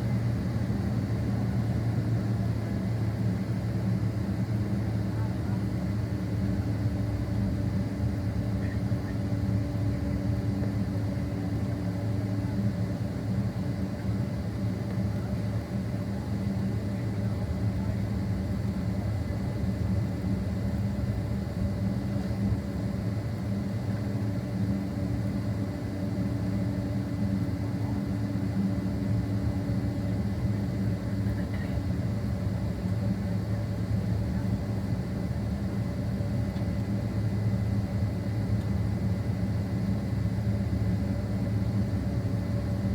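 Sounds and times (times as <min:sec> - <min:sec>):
aircraft cabin drone: 0:00.0 - 0:42.9.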